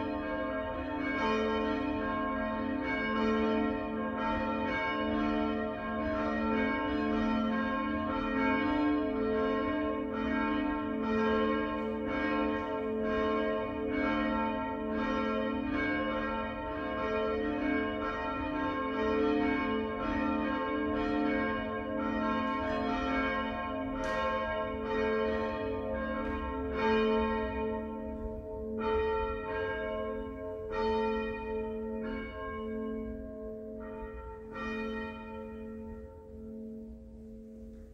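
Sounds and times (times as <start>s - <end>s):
church bells pealing: 0.0s - 37.9s.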